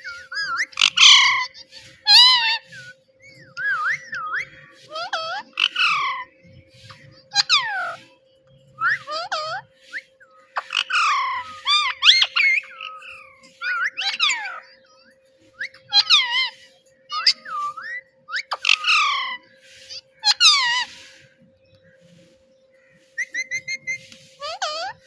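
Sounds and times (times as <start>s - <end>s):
parrot whistling and squawking: 0.0s - 14.9s, 15.5s - 21.2s, 23.2s - 25.0s.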